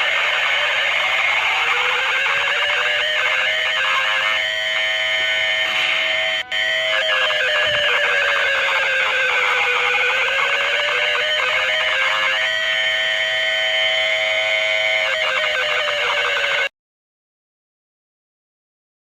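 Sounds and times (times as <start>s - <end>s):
emergency alert alarm: 0.0s - 16.7s.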